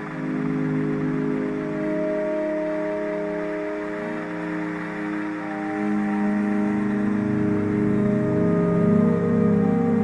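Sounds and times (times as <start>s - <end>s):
ambient drone music: 0.0s - 10.0s.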